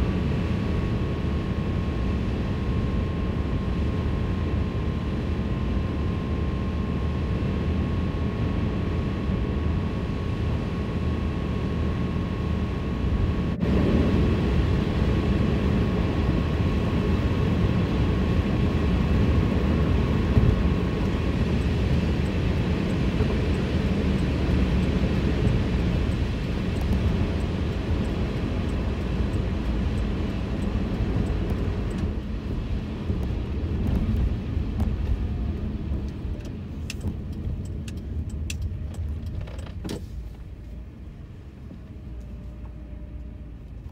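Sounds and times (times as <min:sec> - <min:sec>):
car cabin road rumble: 0:08.2 - 0:43.9.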